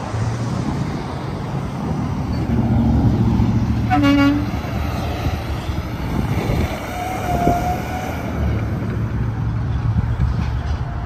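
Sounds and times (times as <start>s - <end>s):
highway traffic rumble: 0.0s - 11.0s.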